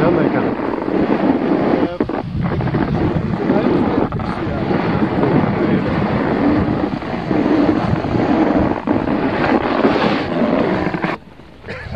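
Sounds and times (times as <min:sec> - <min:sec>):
wind rushing over microphone: 0:00.0 - 0:11.9.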